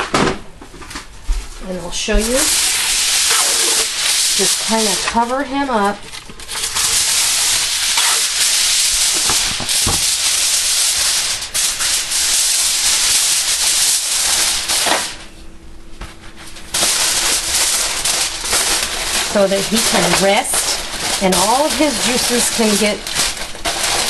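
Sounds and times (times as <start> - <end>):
aluminum foil crinkling: 1.9 - 15.3, 16.1 - 24.0.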